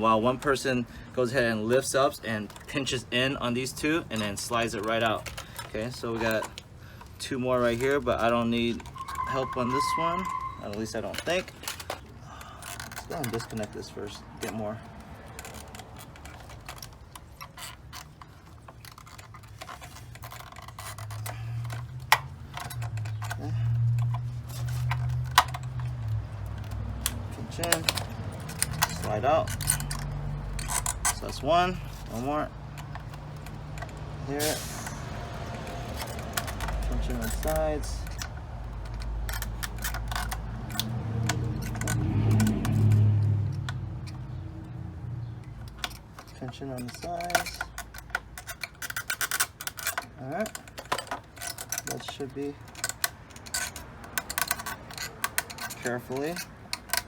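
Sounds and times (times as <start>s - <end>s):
plastic fittings clicking: 7.6s - 34.1s, 34.8s - 57.0s.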